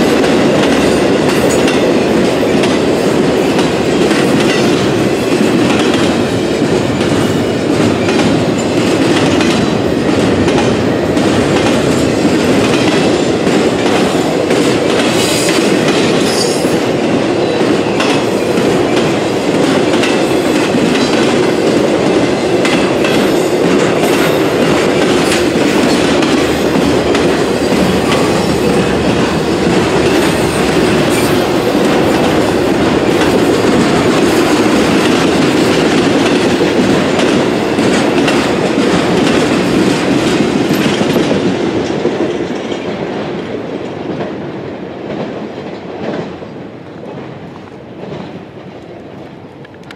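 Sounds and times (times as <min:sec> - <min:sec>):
clickety-clack over rail joints: 0:00.0 - 0:49.9
train wheels rumbling on rail: 0:00.0 - 0:49.9.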